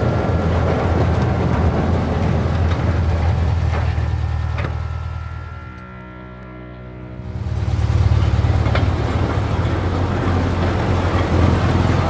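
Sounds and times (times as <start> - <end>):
train rumbling: 0.0 - 6.3, 7.1 - 12.0.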